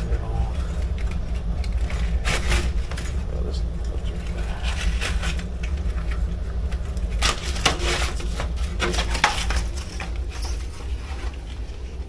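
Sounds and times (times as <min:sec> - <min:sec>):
parts clicking and clattering: 0:00.0 - 0:12.0
steady low hum: 0:00.0 - 0:12.0.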